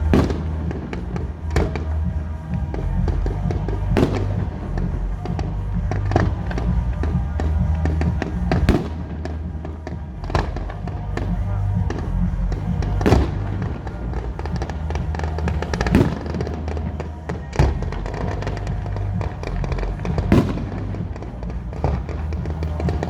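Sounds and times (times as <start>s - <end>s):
fireworks bangs: 0.0s - 23.0s
music with bass line: 0.0s - 23.0s.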